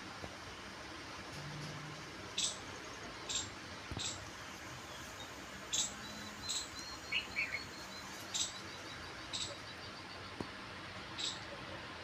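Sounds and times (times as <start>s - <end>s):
small birds chirping: 2.4s - 12.0s.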